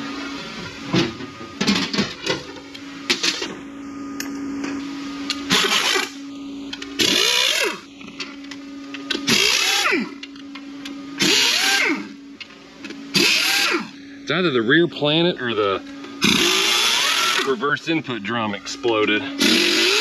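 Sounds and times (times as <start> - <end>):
motor hum: 0.0 - 20.0.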